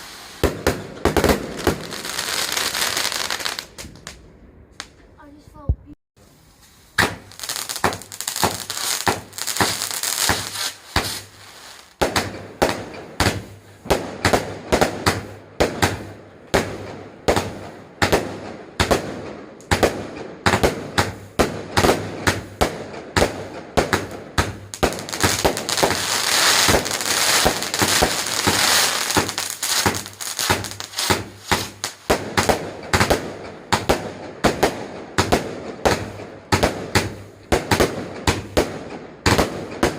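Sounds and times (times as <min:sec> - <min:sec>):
fireworks banging: 0:00.0 - 0:05.7, 0:06.6 - 0:39.9
fireworks crackling: 0:00.0 - 0:39.9.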